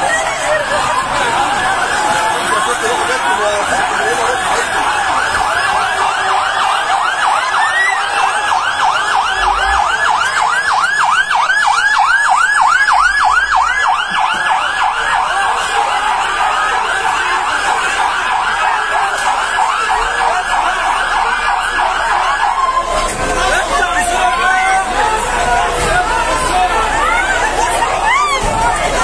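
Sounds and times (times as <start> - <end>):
fire engine siren yelping: 0.0 - 29.0.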